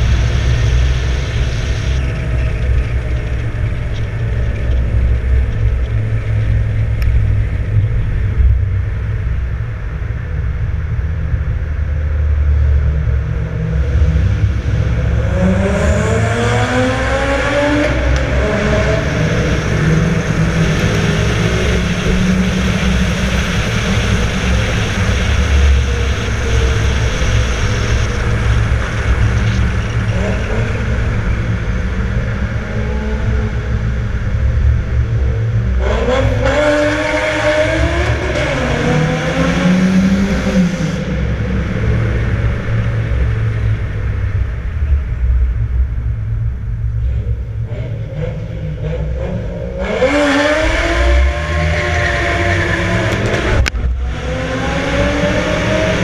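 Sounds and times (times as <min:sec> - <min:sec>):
car engine accelerating hard: 0:00.0 - 0:56.0
road noise rumble: 0:00.0 - 0:56.0.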